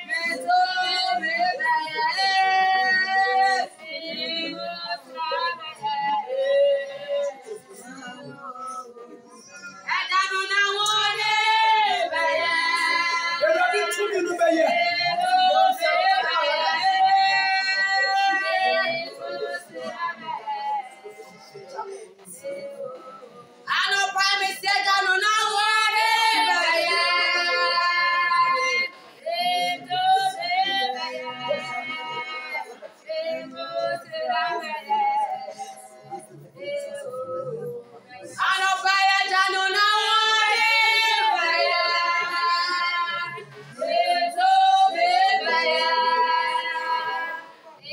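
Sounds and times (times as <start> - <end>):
worship singing: 0.0 - 47.9.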